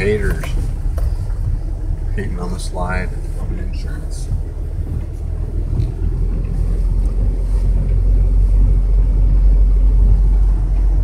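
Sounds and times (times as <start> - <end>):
vehicle rumble on wet gravel: 0.0 - 11.0.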